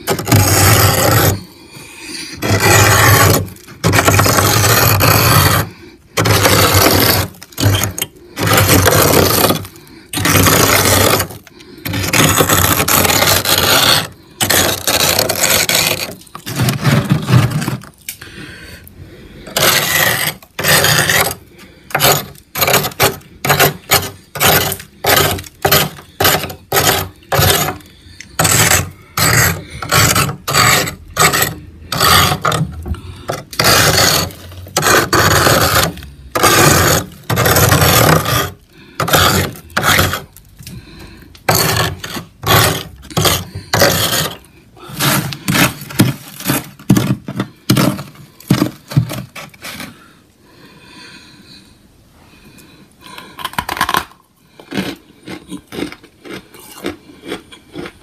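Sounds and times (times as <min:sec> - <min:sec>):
metal spoon scraping frost: 0:00.0 - 0:18.2, 0:19.4 - 0:50.2.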